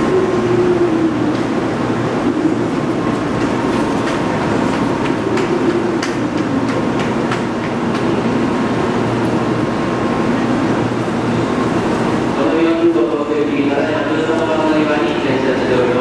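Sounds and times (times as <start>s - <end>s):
train hum: 0.0s - 16.0s.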